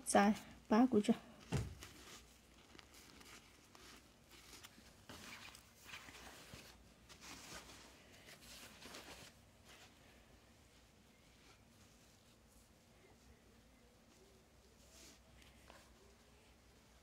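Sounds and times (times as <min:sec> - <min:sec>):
faint scratching and rustling: 0:00.2 - 0:17.0.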